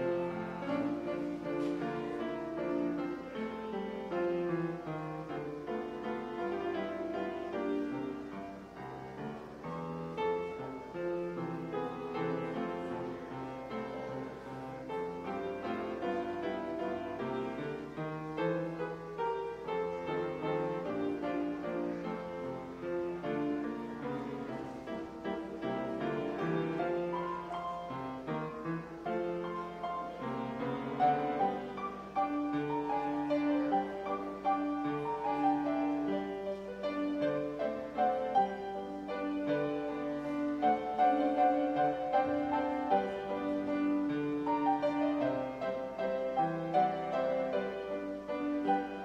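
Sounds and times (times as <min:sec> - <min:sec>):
solo grand piano piece: 0:00.0 - 0:49.0.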